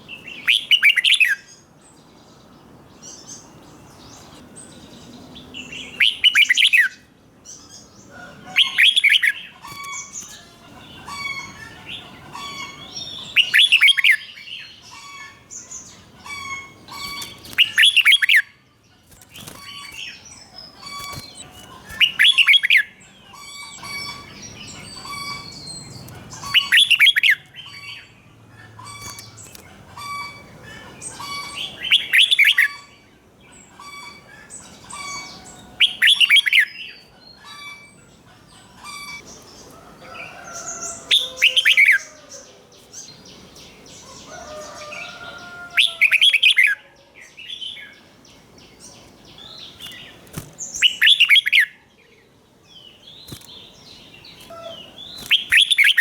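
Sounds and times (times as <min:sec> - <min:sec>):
soft bird chirps: 0:07.6 - 0:46.8, 0:47.4 - 0:56.0.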